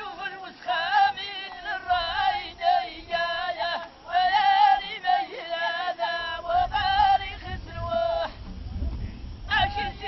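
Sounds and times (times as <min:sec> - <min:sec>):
group singing a chant: 0:00.0 - 0:08.5, 0:09.5 - 0:10.0.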